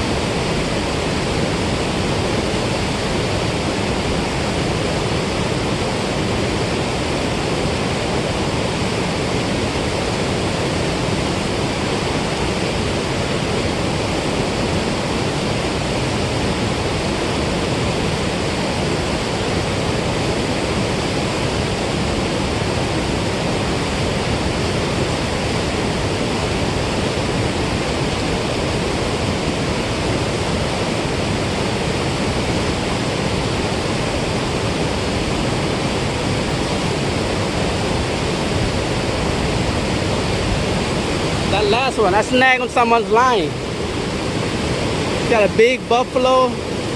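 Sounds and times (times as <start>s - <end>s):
water rushing through spillway: 0.0s - 46.9s.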